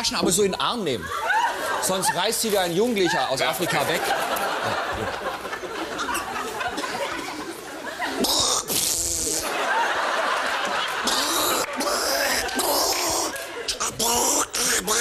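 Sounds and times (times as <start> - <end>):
audience laughing: 1.0 - 8.4, 9.1 - 15.0.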